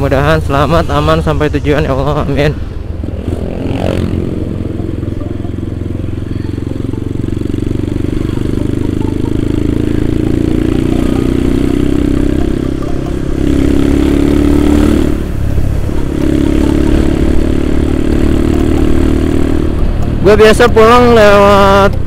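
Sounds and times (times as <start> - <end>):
motorcycle engine running: 2.1 - 22.0.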